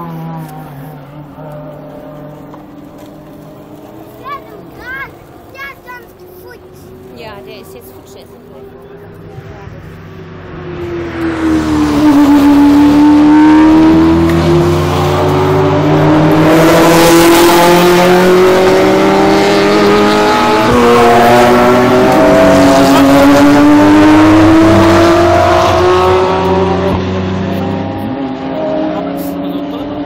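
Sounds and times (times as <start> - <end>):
racing car engines accelerating: 0.0 - 30.0.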